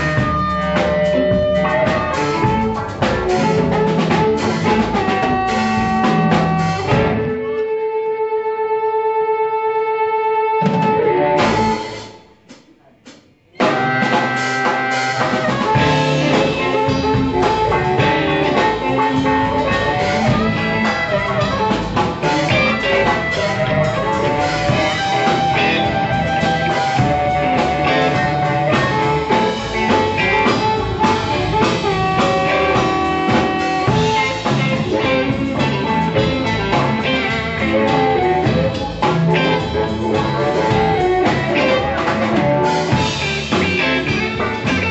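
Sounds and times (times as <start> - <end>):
drum kit: 0.0 - 7.8, 10.6 - 44.9
electric guitar: 0.0 - 12.4, 13.4 - 44.9
blues band playing: 0.0 - 44.9.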